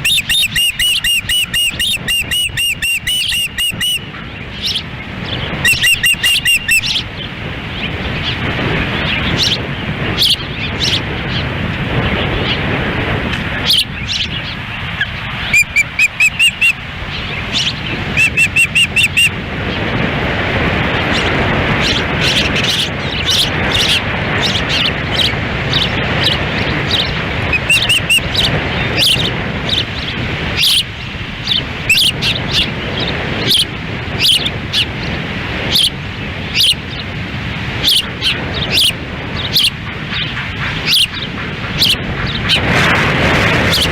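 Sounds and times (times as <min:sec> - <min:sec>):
birds chirping whistled calls: 0:00.0 - 0:08.4, 0:13.5 - 0:19.8, 0:21.1 - 0:37.2, 0:37.8 - 0:42.7
wind buffeting microphone: 0:00.0 - 0:43.9.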